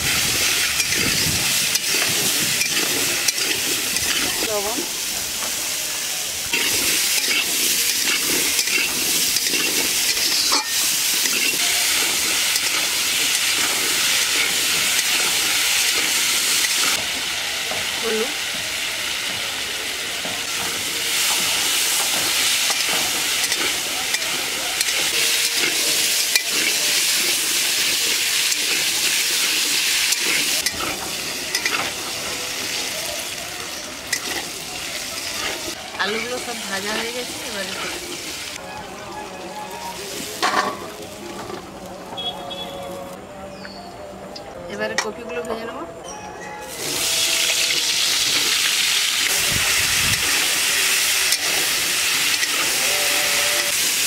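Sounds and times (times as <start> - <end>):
potatoes sizzling in hot oil: 0.0 - 38.6, 46.7 - 54.0.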